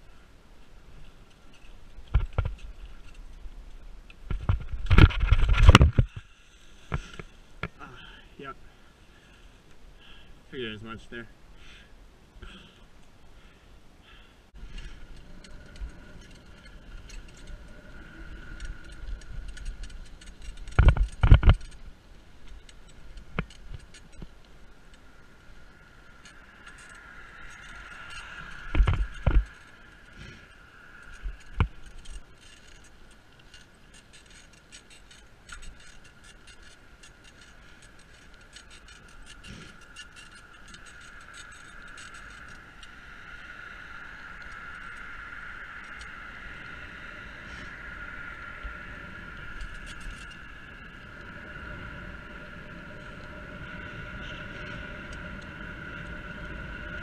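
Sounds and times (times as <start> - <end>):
bicycle rattles and clicks: 0.0 - 10.2, 11.6 - 57.0
bicycle tyre road noise: 0.0 - 57.0.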